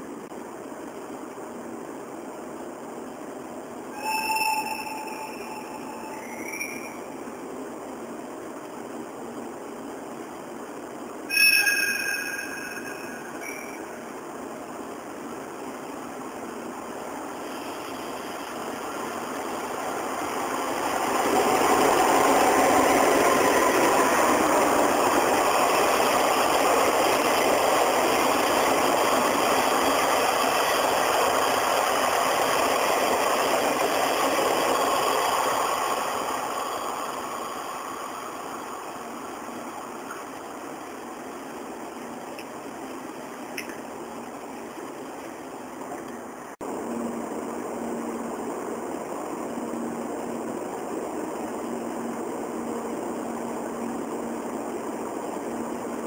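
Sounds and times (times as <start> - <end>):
train rushing rumble: 0.0 - 56.0.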